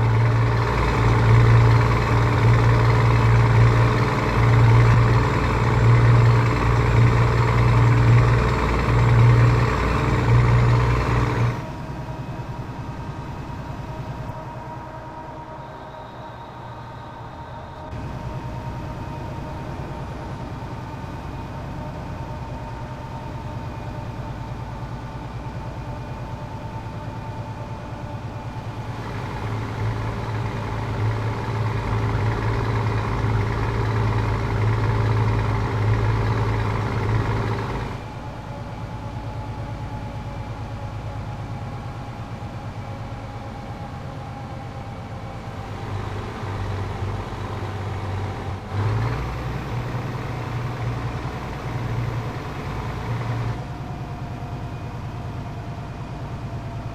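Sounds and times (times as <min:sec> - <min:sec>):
diesel truck engine rumbling: 0:00.0 - 0:56.9.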